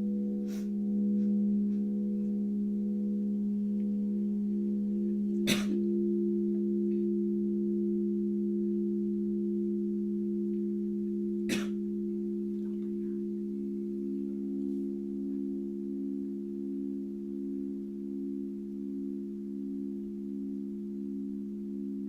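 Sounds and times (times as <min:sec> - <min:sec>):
singing bowl strikes: 0:00.0 - 0:22.0
singing bowls ringing: 0:00.0 - 0:22.0.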